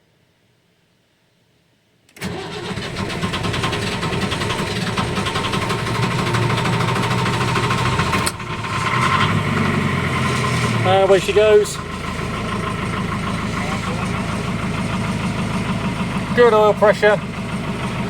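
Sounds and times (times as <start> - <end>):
diesel boat engine starting and running: 2.2 - 18.0.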